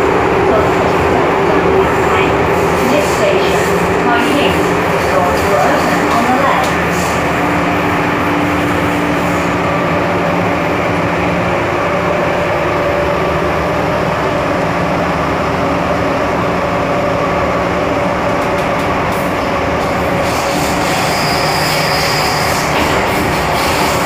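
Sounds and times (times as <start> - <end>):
train motor hum: 0.0 - 24.0
train wheels rumbling on rail: 0.0 - 24.0.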